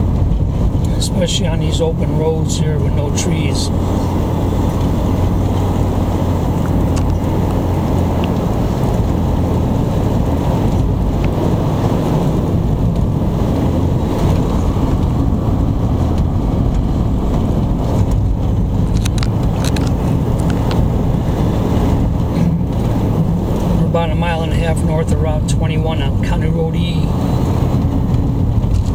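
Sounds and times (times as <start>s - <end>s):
car engine and tyres rumble: 0.0s - 28.9s.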